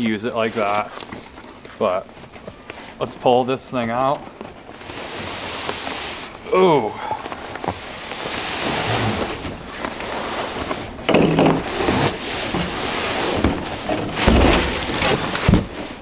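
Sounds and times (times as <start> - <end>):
fabric bag scraping and rustling: 0.3 - 16.0.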